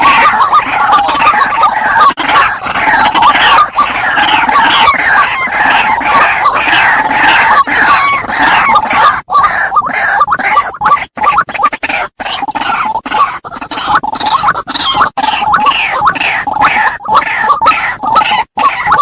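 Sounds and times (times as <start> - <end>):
waterhens calling: 0.0 - 19.0.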